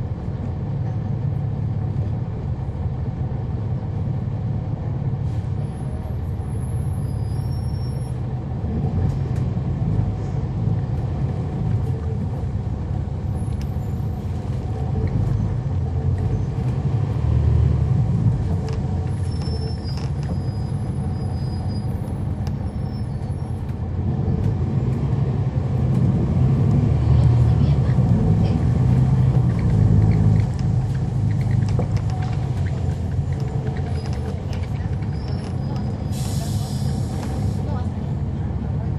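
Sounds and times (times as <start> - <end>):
diesel bus engine rumble: 0.0 - 38.9.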